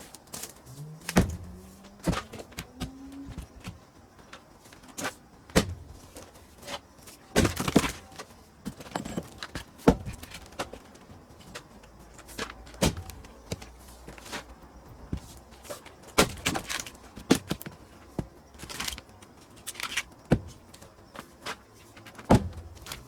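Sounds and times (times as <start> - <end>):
firewood knocks and thuds: 0.3 - 23.0.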